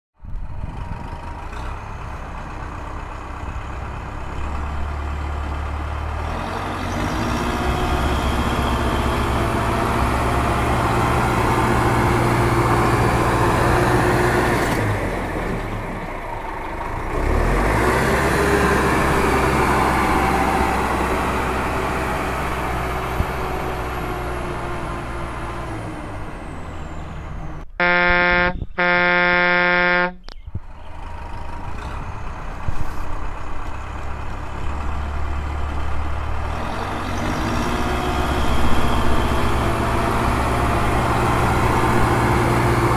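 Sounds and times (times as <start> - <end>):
heavy vehicle engine running: 0.2 - 42.9.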